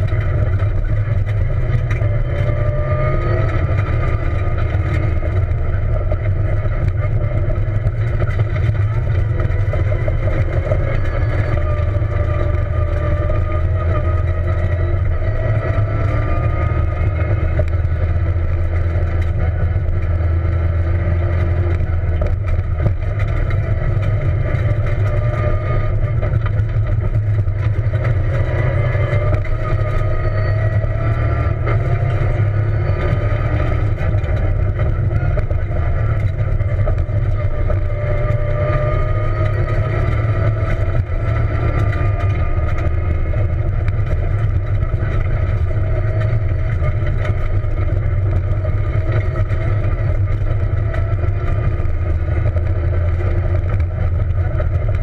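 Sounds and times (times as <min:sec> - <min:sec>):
car engine revving: 0:00.0 - 0:55.0
low rumble of dirt road: 0:00.0 - 0:55.0.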